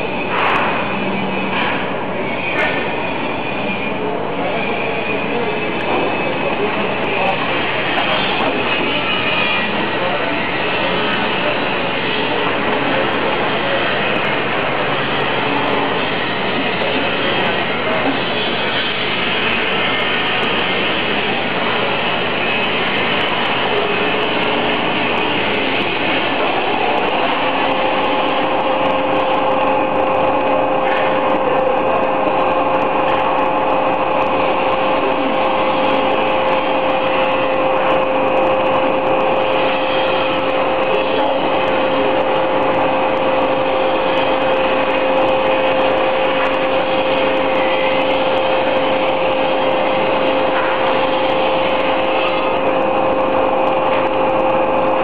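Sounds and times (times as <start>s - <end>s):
industrial machine running: 0.0s - 55.0s
steady machine whine: 0.0s - 55.0s.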